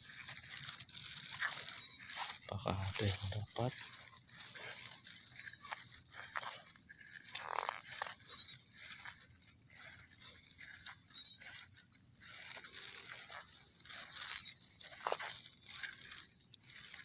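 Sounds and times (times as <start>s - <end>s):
high-pitched animal chorus: 0.0s - 17.0s.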